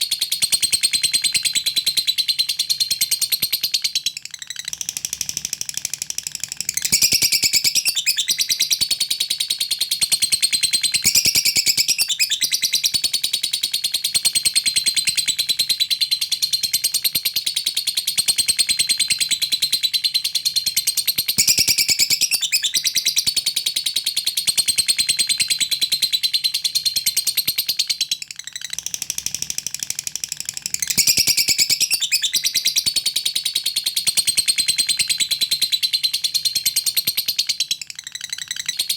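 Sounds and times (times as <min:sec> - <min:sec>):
lovebird high-pitched chatter: 0:00.2 - 0:38.9.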